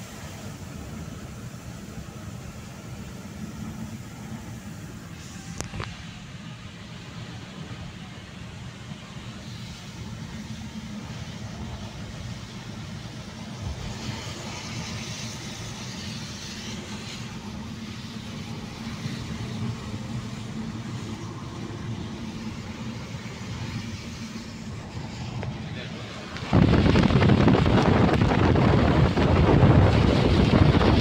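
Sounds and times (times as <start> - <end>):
car engine and tyre rumble: 0.0 - 31.0
tyres hissing on wet road: 0.0 - 31.0.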